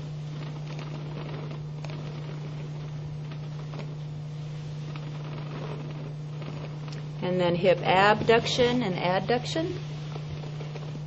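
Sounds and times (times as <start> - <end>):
faint soft rustles: 0.0 - 11.0
steady low hum: 0.0 - 11.0.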